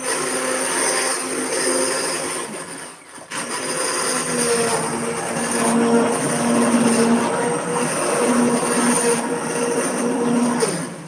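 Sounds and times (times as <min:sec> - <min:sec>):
immersion blender motor whining: 0:00.0 - 0:11.0.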